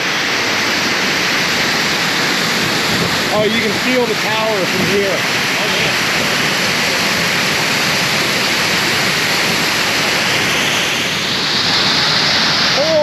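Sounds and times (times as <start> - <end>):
waterfall crashing: 0.0 - 13.0.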